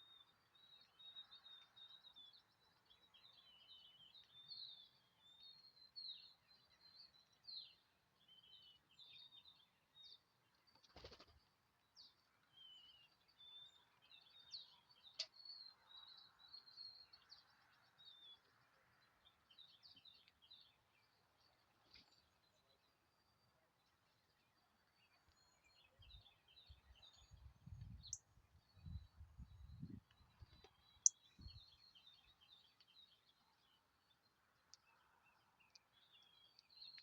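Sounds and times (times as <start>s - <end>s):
small songbirds twittering: 0.0s - 37.0s.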